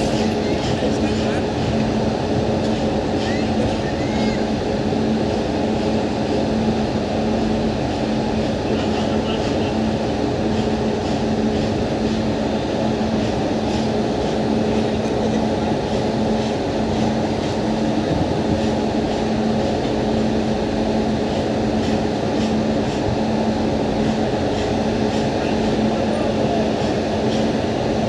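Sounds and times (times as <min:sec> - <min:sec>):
electric locomotive humming: 0:00.0 - 0:28.0.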